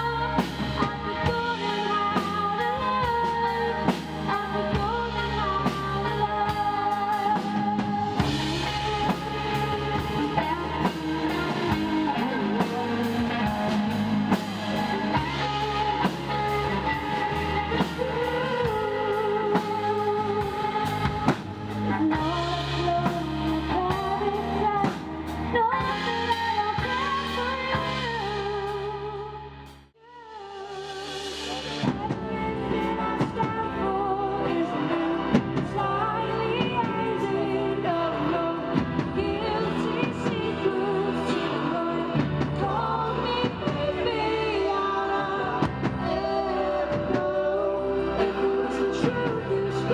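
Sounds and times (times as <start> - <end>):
electric and acoustic guitars: 0.0 - 29.6, 31.4 - 49.9
drum kit: 0.0 - 49.9
woman singing: 0.0 - 49.9.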